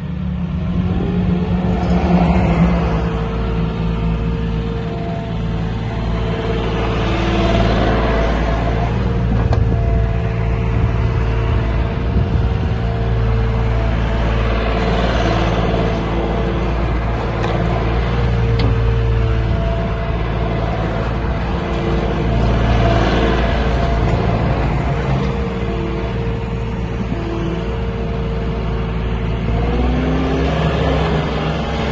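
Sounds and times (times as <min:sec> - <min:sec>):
diesel engine under load: 0:00.0 - 0:31.9.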